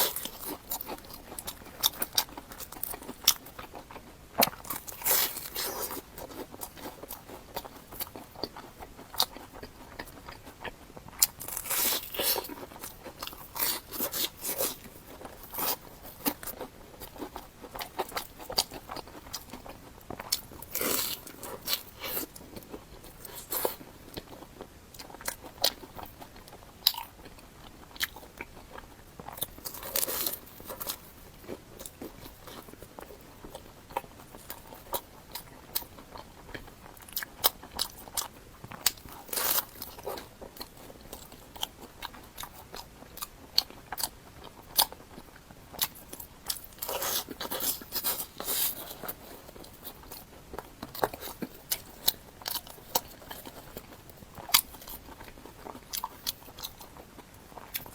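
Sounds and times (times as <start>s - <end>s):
crunchy sandwich chewing: 0.0s - 57.9s.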